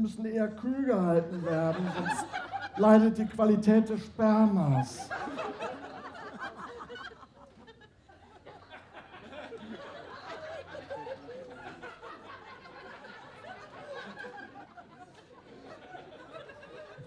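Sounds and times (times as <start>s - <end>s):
audience laughing: 0.9s - 17.0s.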